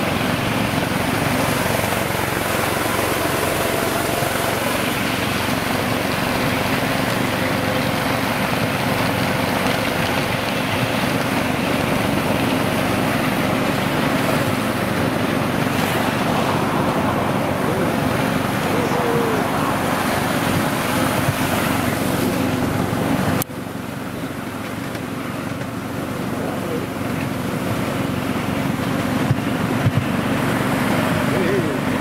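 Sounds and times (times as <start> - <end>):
miniature train wheels rumbling: 0.0 - 32.0.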